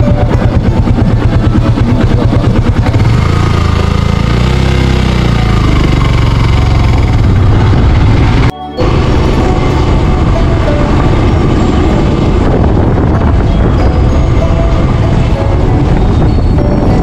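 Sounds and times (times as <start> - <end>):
motorcycle engine idling and pulling away: 0.0 - 17.0.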